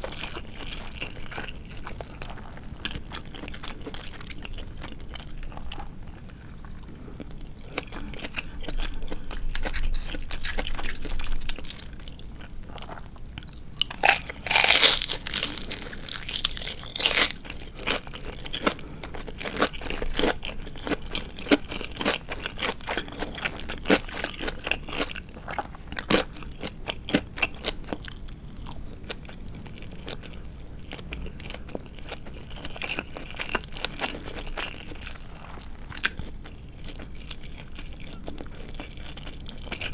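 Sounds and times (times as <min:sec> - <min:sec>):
chewing crispy fried chicken: 0:00.0 - 0:39.9.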